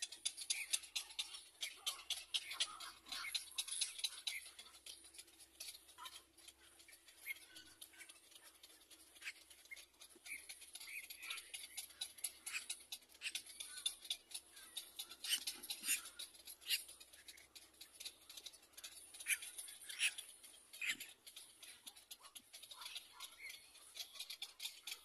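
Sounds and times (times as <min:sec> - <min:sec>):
nestlings squeaking and clicking: 0:00.0 - 0:25.0.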